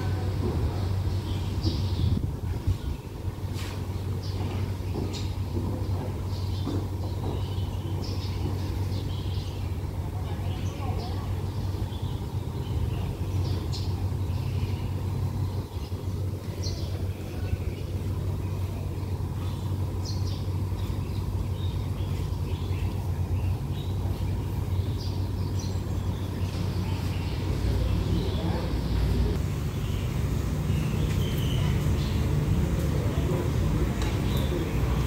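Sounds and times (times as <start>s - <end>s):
diesel train engine idling: 0.0s - 35.0s.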